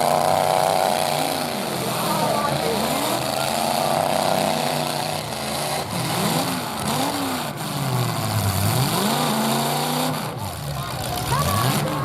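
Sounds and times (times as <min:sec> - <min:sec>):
truck engines revving hard: 0:00.0 - 0:12.0.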